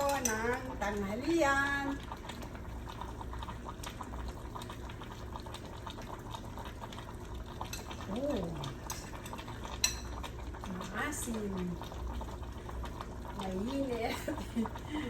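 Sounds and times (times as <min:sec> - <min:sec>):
soup bubbling in a pot: 0:00.0 - 0:15.0.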